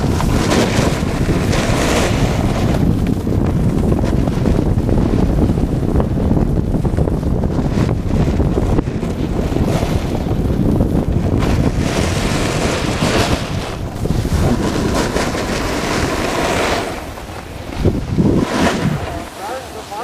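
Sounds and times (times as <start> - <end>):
snowboard sliding on snow: 0.0 - 20.0
wind buffeting microphone: 0.0 - 20.0.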